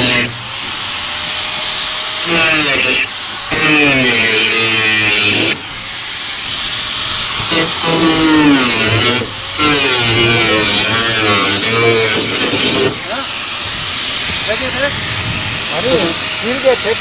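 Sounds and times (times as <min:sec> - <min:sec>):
power tool cutting styrofoam: 0:00.0 - 0:17.0.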